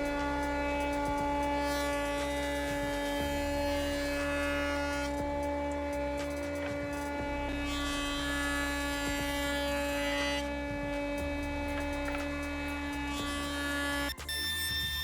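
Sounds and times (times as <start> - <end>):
wood router whining: 0.0 - 15.0.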